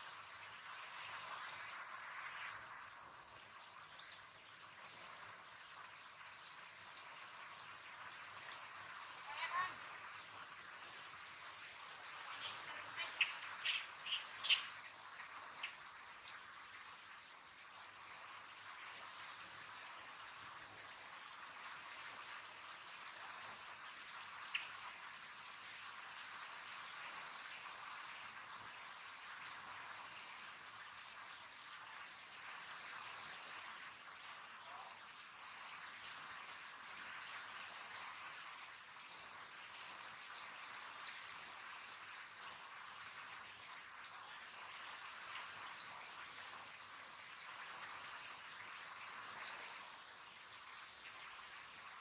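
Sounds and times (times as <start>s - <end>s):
steady rain hissing: 0.0s - 52.0s.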